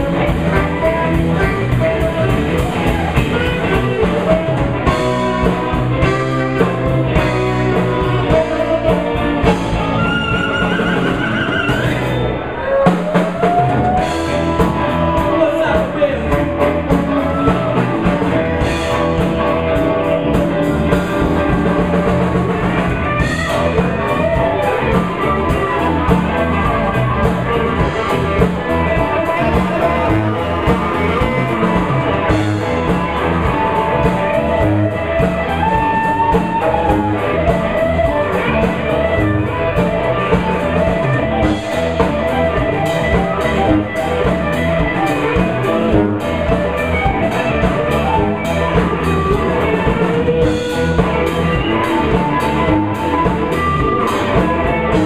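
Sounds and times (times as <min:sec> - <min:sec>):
blues band jamming: 0:00.0 - 0:55.0
electric guitar lead lines: 0:00.0 - 0:55.0.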